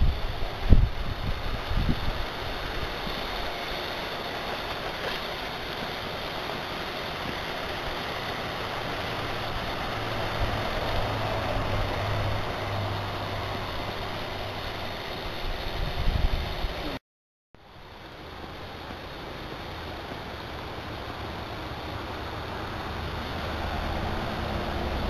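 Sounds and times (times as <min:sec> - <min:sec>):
model train motor hum: 0:00.0 - 0:17.0, 0:17.7 - 0:25.0
steady hiss: 0:00.0 - 0:17.0, 0:17.6 - 0:25.0.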